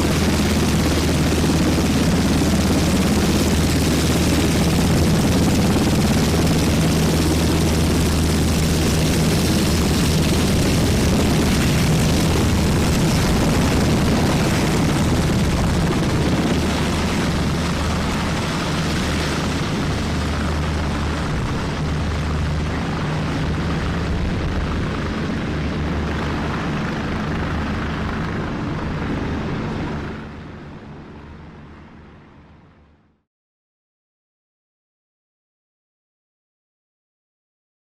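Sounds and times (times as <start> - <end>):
helicopter rotor and turbine: 0.0 - 33.2.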